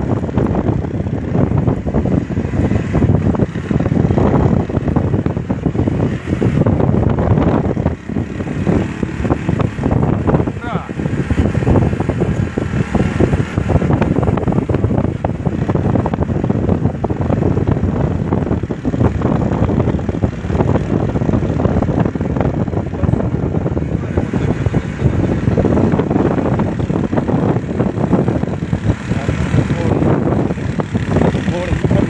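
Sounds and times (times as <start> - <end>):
vehicle running at speed: 0.0 - 32.0
wind noise on microphone: 0.0 - 32.0.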